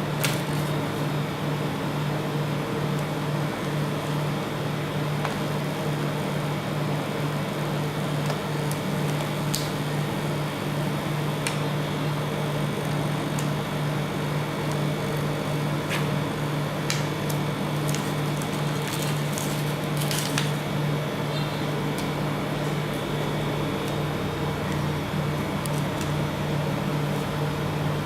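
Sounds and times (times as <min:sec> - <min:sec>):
refrigeration unit humming: 0:00.0 - 0:28.0.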